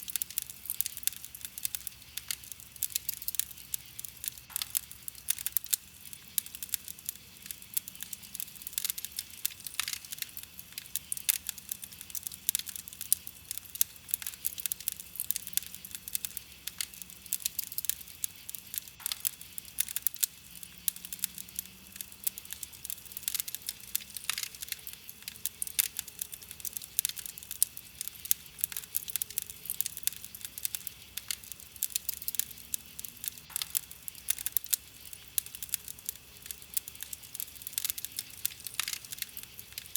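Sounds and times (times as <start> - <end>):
campfire crackling and popping: 0.0 - 39.9
hiss of burning wood: 0.0 - 39.9.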